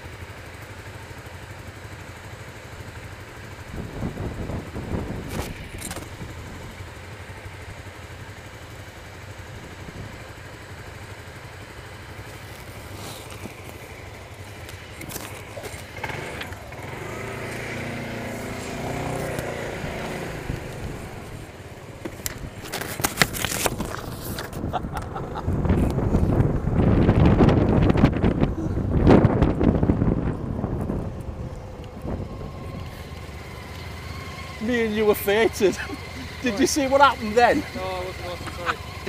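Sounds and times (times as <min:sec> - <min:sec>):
scooter engine: 0:00.0 - 0:39.0.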